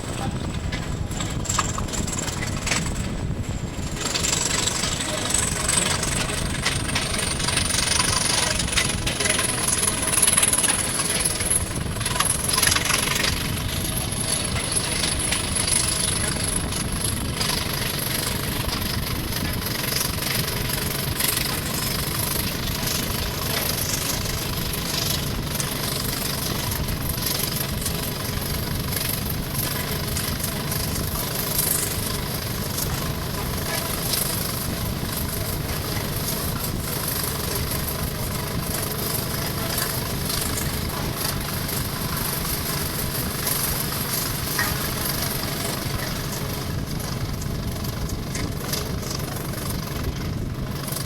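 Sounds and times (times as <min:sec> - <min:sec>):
diesel locomotive engine running: 0:00.0 - 0:51.0
high engine whine: 0:00.0 - 0:51.0.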